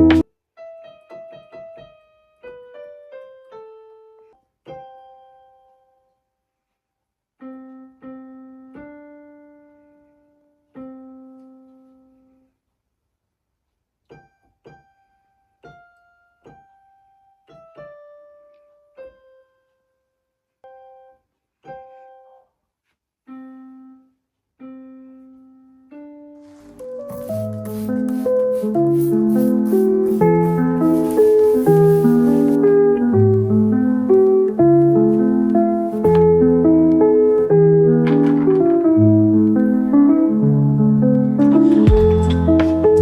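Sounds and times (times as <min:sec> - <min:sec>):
slow solo piano: 0:00.0 - 0:06.3, 0:07.4 - 0:12.6, 0:14.0 - 0:22.5, 0:23.2 - 0:43.0.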